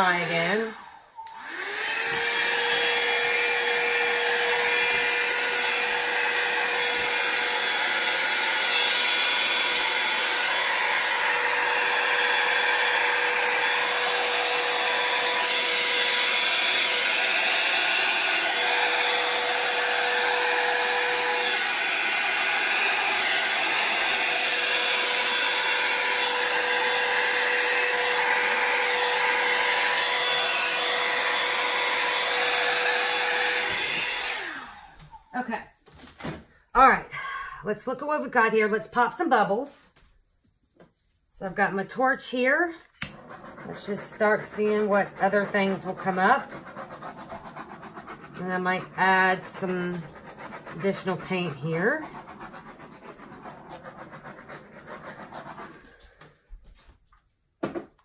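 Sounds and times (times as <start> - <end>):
hair dryer running: 0.0 - 35.4, 42.3 - 56.4.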